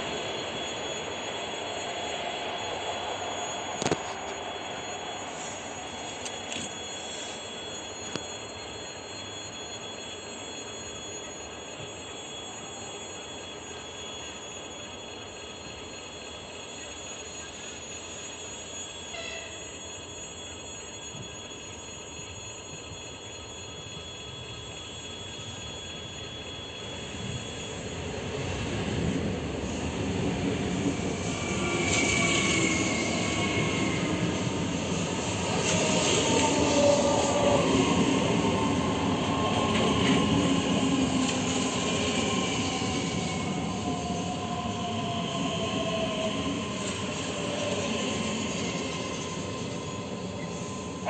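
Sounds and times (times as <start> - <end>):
electric train running: 0.0 - 51.0
electric whine falling in pitch: 0.0 - 51.0
wheel squeal: 0.0 - 51.0.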